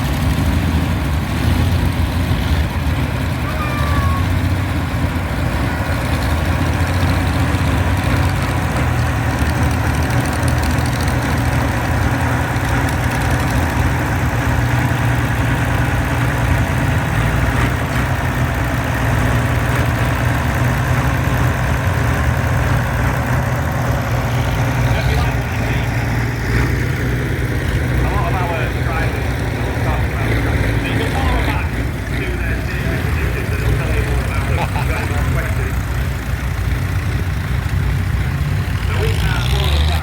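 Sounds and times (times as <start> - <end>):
large engine idling: 0.0 - 40.0.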